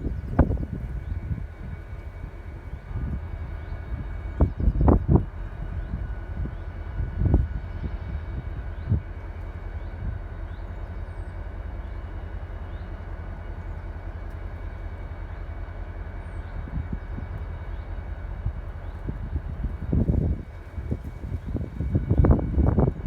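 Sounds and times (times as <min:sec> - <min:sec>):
wind buffeting microphone: 0:00.0 - 0:12.4, 0:13.2 - 0:23.0.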